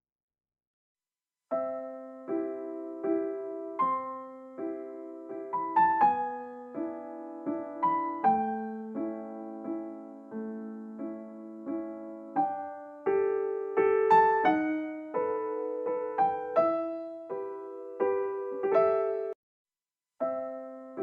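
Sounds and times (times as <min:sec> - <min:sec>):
piano music: 0:01.5 - 0:19.4, 0:20.2 - 0:21.0.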